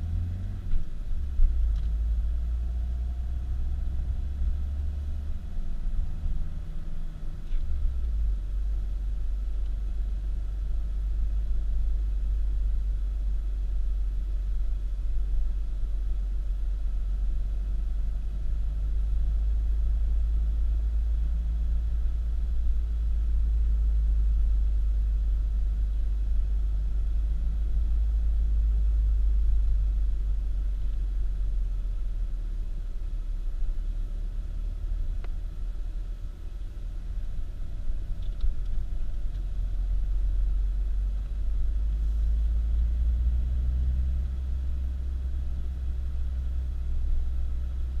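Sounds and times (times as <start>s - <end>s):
car driving rumble: 0.0s - 48.0s
faint engine hum: 0.0s - 48.0s.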